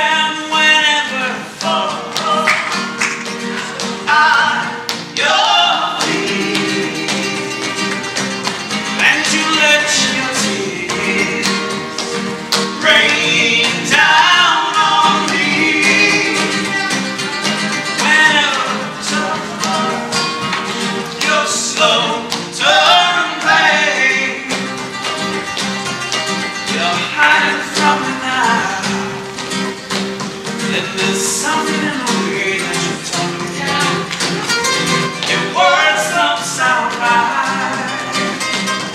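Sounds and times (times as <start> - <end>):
man singing: 0.0 - 2.5, 3.4 - 8.2, 8.8 - 24.9, 26.6 - 29.2, 30.6 - 34.4, 35.1 - 38.6
nylon-string guitar: 0.0 - 38.9
rhythmic hand clapping: 0.6 - 38.9.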